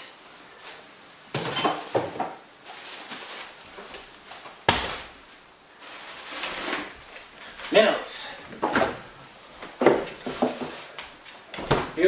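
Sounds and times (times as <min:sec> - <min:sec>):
groceries rustling: 0:00.3 - 0:12.0.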